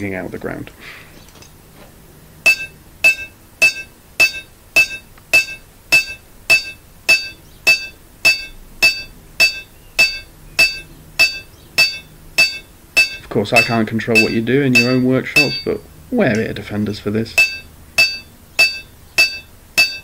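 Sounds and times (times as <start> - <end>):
hammer striking metal on anvil: 2.4 - 15.8, 17.4 - 20.0.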